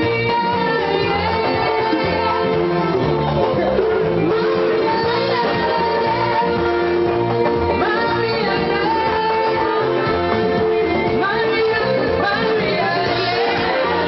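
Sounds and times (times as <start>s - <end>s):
live music accompaniment: 0.0s - 14.0s
woman singing into microphone: 0.0s - 14.0s.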